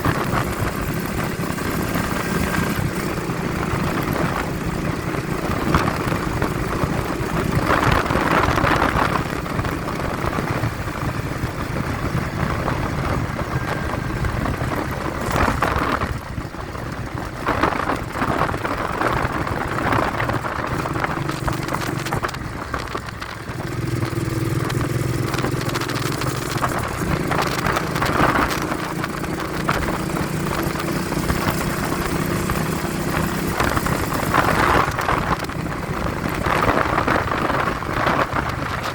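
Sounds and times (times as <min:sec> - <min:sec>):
vehicle engine running: 0:00.0 - 0:38.9
wind buffeting microphone: 0:00.0 - 0:38.9.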